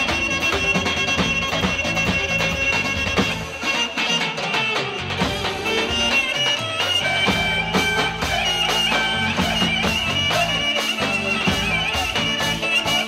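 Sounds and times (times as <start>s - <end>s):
steady drum beat: 0.0s - 13.0s
wavering wind instrument melody: 0.0s - 13.0s.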